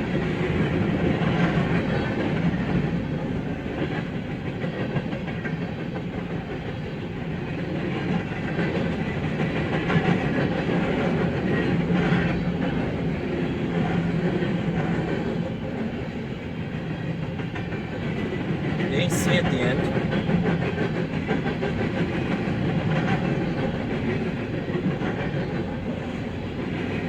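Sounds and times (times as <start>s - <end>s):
clickety-clack over rail joints: 0.0s - 27.0s
freight train wheels rumbling: 0.0s - 27.0s.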